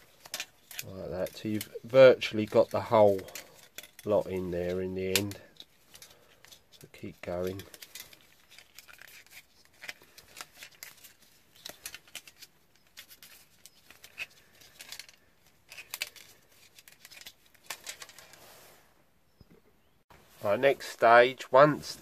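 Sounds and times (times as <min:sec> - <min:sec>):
spring clicking and scraping plastic: 0:00.0 - 0:18.4.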